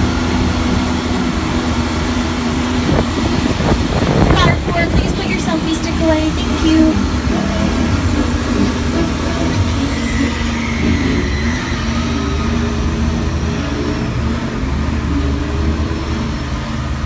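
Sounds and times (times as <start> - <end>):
faint high whine: 0.0 - 14.1
tram engine and road rumble: 0.0 - 17.0.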